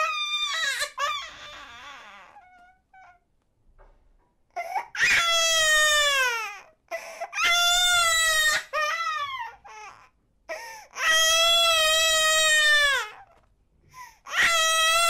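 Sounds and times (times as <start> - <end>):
baby crying: 0.0 - 3.2, 4.6 - 13.4, 14.2 - 15.0.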